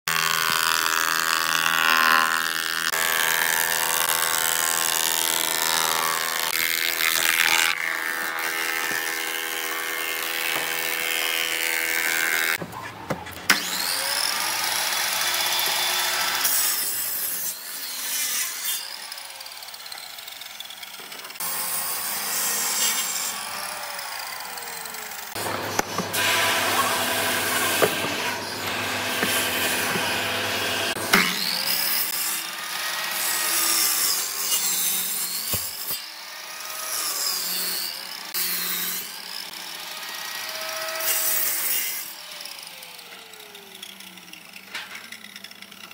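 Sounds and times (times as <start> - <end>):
wood planer: 0.0 - 45.9
miter saw cutting: 0.1 - 45.9.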